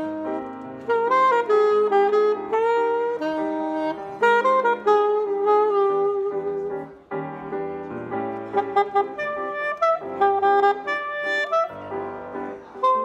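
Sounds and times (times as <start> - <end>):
piano accompaniment: 0.0 - 13.0
saxophone jazz melody: 0.0 - 13.0.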